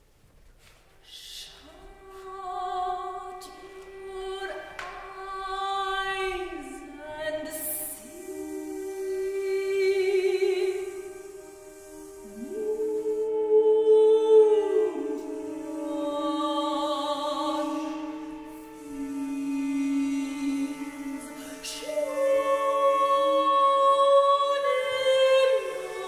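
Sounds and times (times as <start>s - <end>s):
soprano singing with vibrato: 1.0s - 26.0s.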